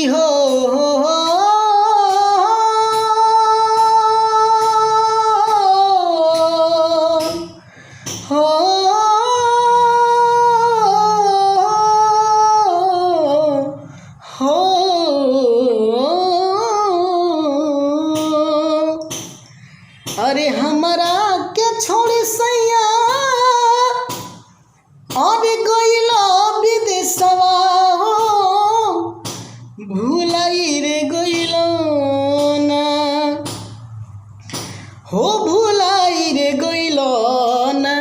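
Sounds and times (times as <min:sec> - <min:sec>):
person singing wordless vowels: 0:00.0 - 0:24.5, 0:25.1 - 0:33.9, 0:34.5 - 0:38.0.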